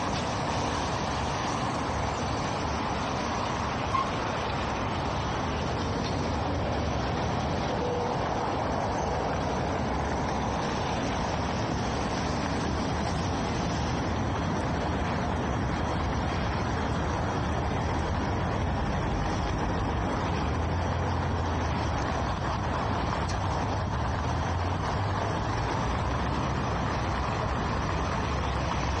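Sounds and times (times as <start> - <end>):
cars driving on a snowy road: 0.0 - 29.0
low engine rumble: 0.0 - 29.0.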